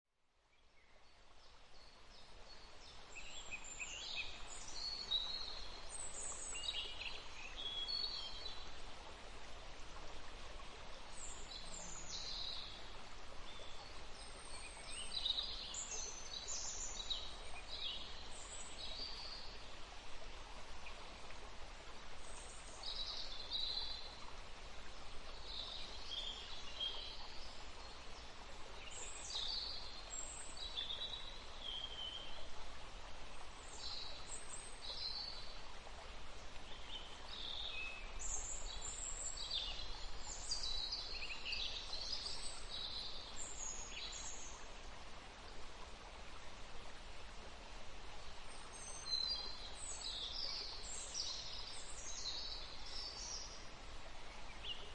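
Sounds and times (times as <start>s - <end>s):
running water rushing: 1.0s - 54.9s.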